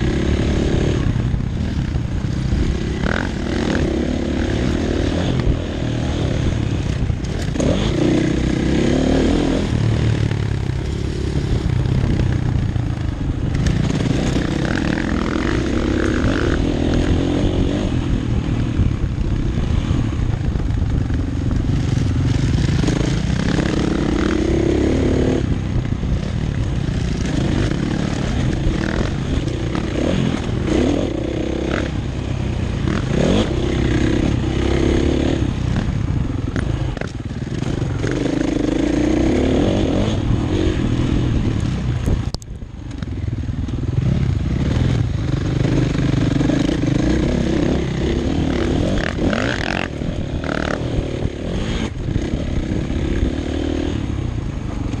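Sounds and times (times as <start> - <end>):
dirt bike engine revving: 0.0 - 41.8, 43.8 - 54.2.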